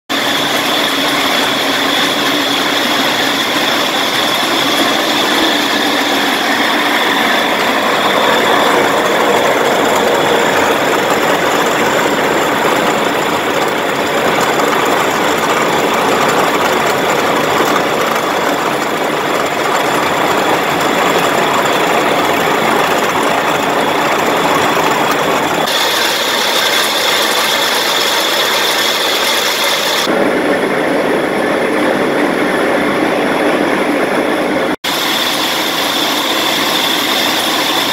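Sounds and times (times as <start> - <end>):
constant high whine: 0.1 - 37.9
polishing machine running: 0.1 - 37.9.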